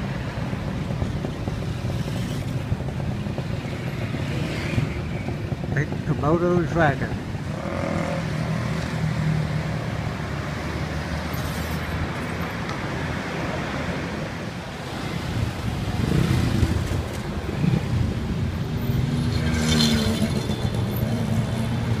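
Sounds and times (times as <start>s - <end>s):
vehicles driving past: 0.0s - 22.0s.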